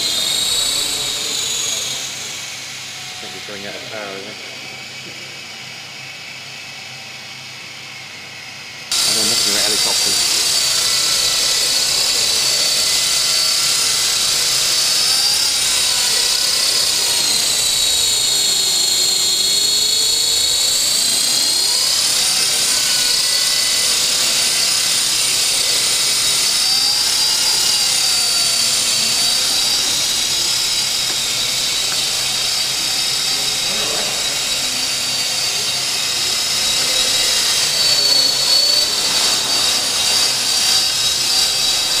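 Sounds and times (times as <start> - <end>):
model plane motor whine: 0.0 - 42.0.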